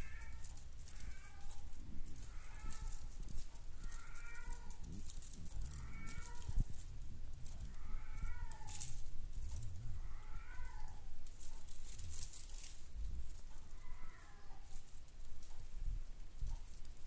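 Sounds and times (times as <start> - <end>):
kittens mewing: 0.0 - 12.8, 13.5 - 15.1
light rustling: 0.0 - 17.0.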